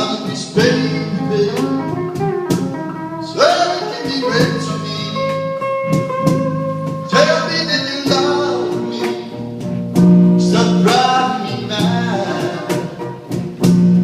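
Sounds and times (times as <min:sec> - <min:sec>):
live band playing slow blues: 0:00.0 - 0:14.0.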